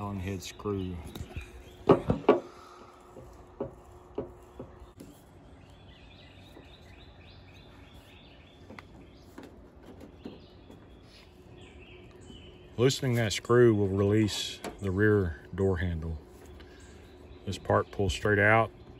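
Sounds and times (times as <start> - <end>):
birds chirping: 0.0 - 18.9.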